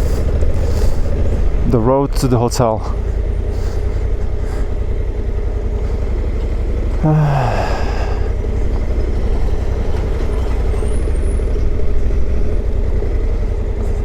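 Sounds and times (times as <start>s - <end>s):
motorcycle engine rumble: 0.0s - 14.0s.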